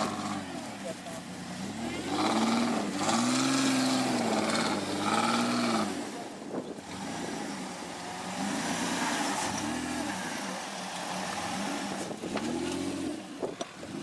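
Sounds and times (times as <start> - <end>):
engine revving: 0.0 - 14.0.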